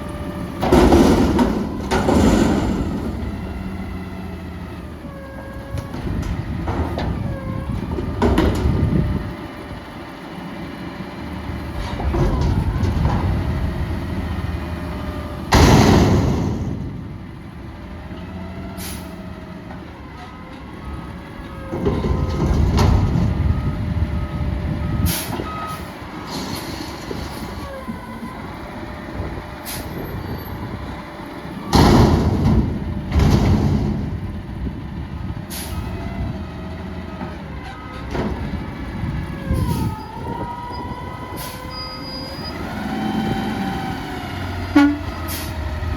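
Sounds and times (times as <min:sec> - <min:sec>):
garbage truck engine revving: 0:00.0 - 0:45.9.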